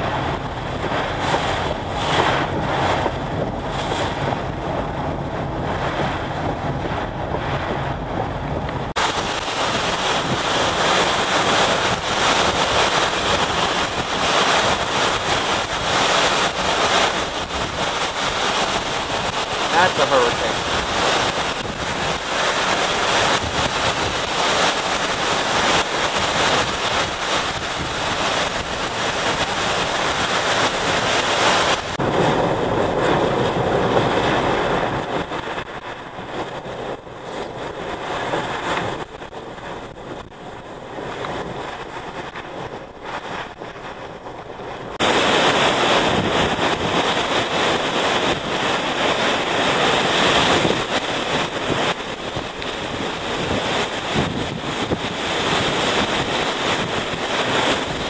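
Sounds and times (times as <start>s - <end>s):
driving rain: 0.0s - 58.0s
wind buffeting microphone: 0.0s - 58.0s.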